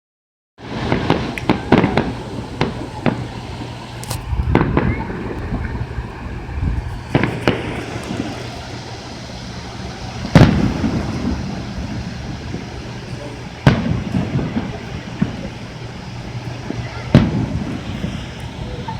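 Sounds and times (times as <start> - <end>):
fireworks cracks and bangs: 0.6 - 18.9.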